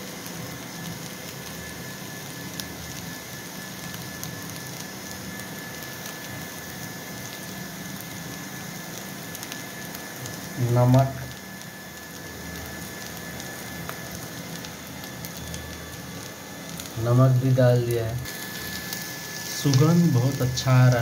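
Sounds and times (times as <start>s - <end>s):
potatoes sizzling in oil: 0.0s - 21.0s.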